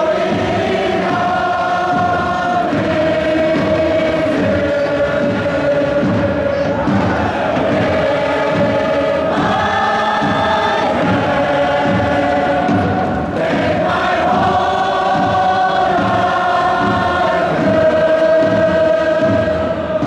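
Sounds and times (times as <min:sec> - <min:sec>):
crowd chanting in unison: 0:00.0 - 0:20.0.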